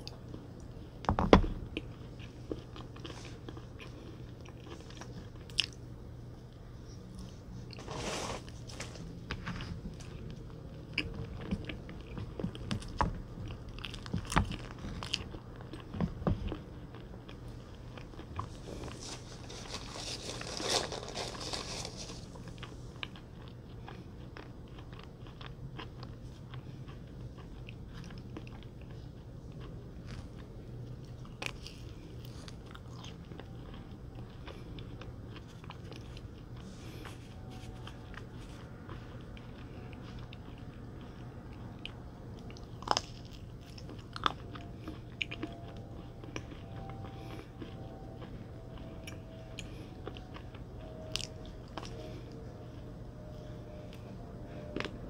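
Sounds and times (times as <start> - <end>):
person chewing: 1.7 - 5.8, 7.2 - 55.0.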